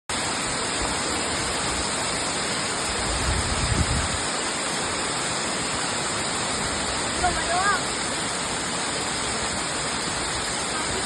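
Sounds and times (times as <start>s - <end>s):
waterfall roaring: 0.1s - 11.0s.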